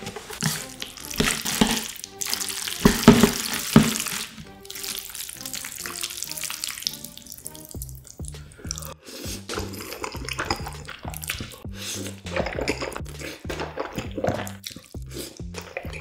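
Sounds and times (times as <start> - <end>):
chopsticks stirring sticky noodles: 0.0 - 16.0
soft background music: 0.0 - 16.0.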